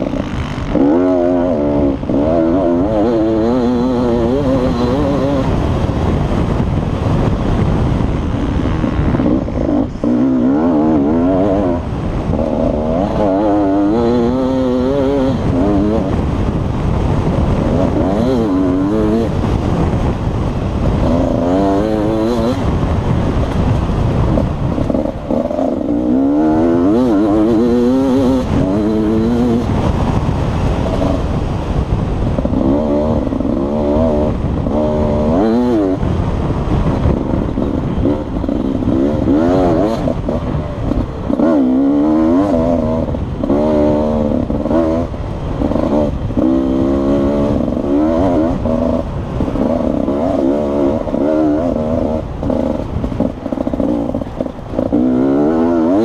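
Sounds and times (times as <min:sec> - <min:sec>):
motorcycle engine revving hard: 0:00.0 - 0:56.0.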